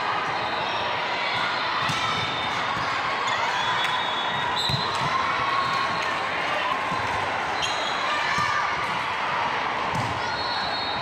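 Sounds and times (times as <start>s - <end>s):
crowd chatter: 0.0s - 11.0s.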